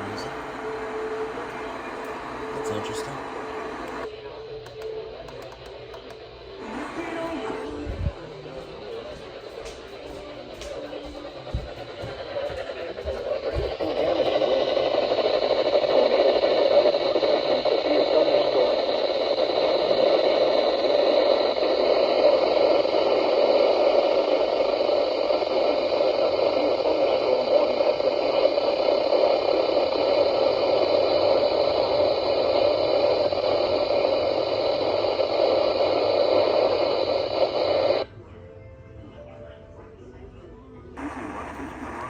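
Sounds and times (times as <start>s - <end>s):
radio static: 0.0s - 38.0s, 41.0s - 42.0s.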